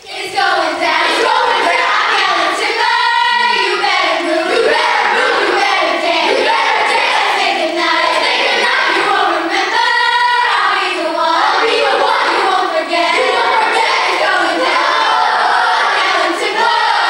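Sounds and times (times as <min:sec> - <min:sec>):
children singing together: 0:00.0 - 0:17.0.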